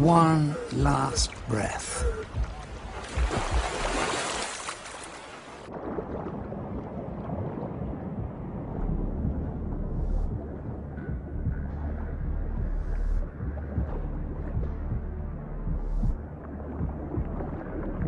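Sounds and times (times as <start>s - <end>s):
muffled underwater rumble: 0.0s - 4.0s, 5.6s - 18.0s
water at sea surface: 0.0s - 18.0s.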